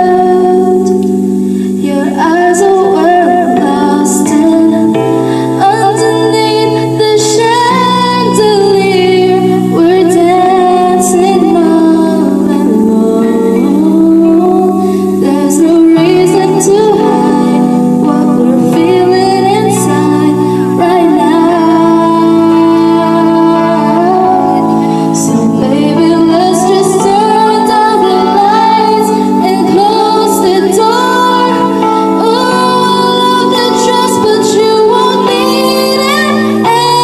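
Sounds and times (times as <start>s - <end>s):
backing track of sustained chords: 0.0s - 37.0s
girl singing into a microphone: 0.0s - 37.0s.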